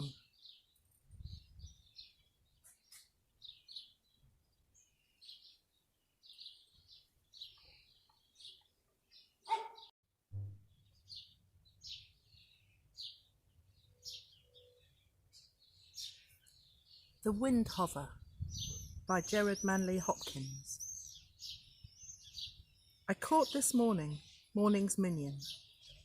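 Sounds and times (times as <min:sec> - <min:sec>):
birds chirping and twittering: 0:00.0 - 0:26.0.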